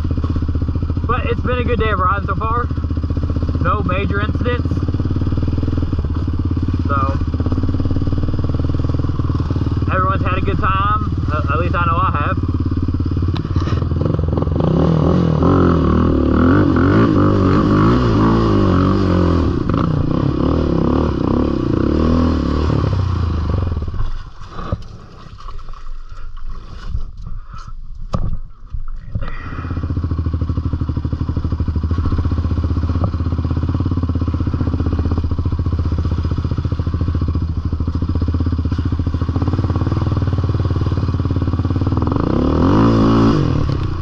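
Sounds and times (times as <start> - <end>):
atv engine revving: 0.0 - 25.0, 29.2 - 44.0.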